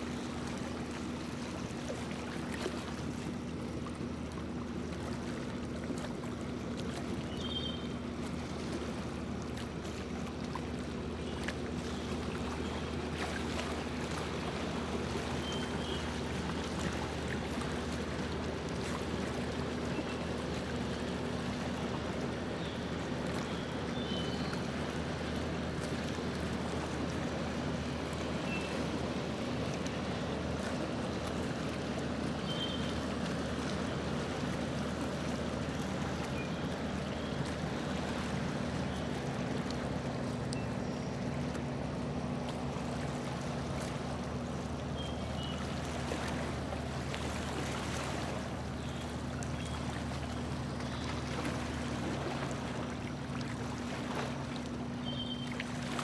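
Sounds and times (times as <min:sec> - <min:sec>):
boat engine droning: 0:00.0 - 0:56.0
water washing along hull: 0:00.0 - 0:56.0.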